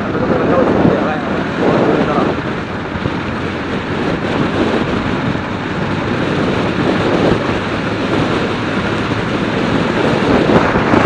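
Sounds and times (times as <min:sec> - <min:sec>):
rush of wind: 0:00.0 - 0:11.0
vehicle road noise: 0:00.0 - 0:11.0
wind buffeting microphone: 0:00.0 - 0:11.0.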